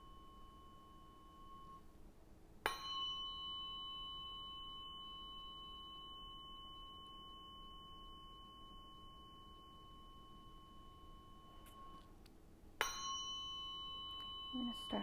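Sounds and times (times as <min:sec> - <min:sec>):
tuning fork ringing tone: 0:00.0 - 0:15.0
tuning fork tap: 0:02.6 - 0:15.0.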